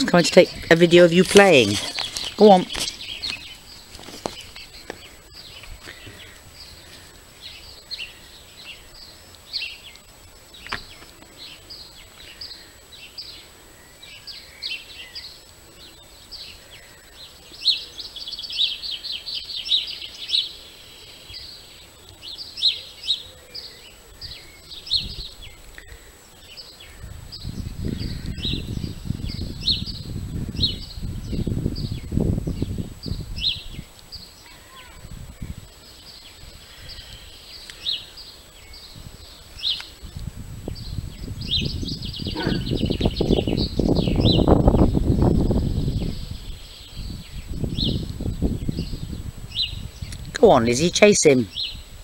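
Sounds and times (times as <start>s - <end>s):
faint outdoor hiss: 0.0s - 52.0s
songbirds chirping: 0.0s - 52.0s.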